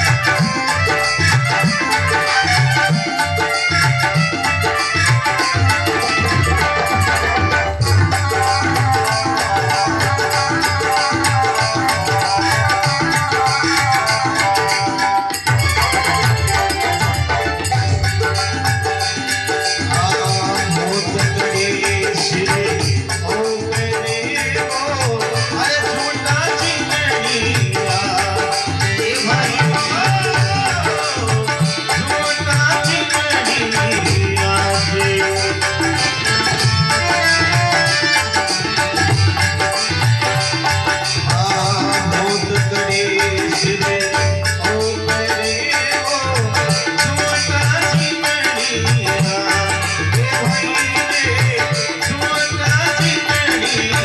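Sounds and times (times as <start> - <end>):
hand drums rhythm: 0.0 - 54.0.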